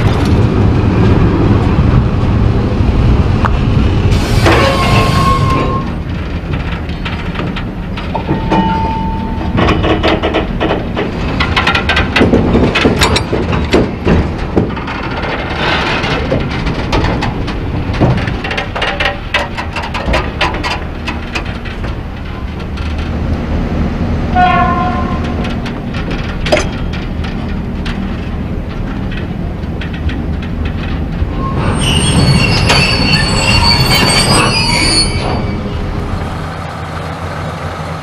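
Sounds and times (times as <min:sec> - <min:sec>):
train wagons rumbling on rails: 0:00.0 - 0:38.0
wheel and coupling clanks: 0:04.4 - 0:23.4, 0:24.3 - 0:36.4.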